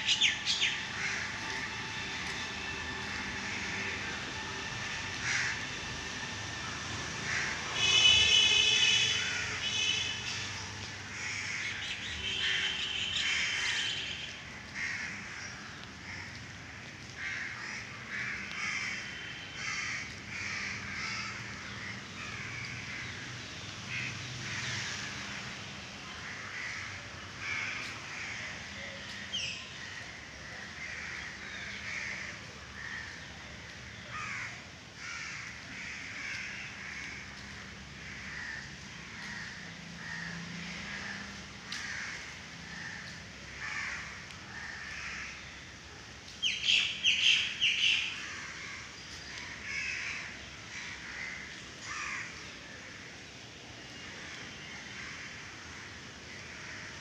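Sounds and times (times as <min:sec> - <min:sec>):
crows cawing: 0:00.0 - 0:23.2, 0:23.9 - 0:25.4, 0:26.2 - 0:33.3, 0:33.9 - 0:45.6, 0:46.4 - 0:53.0, 0:54.2 - 0:57.0.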